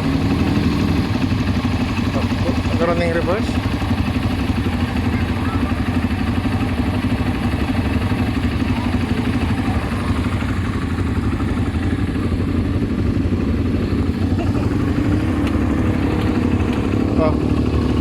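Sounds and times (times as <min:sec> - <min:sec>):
atv engine running at low revs: 0:00.0 - 0:18.0.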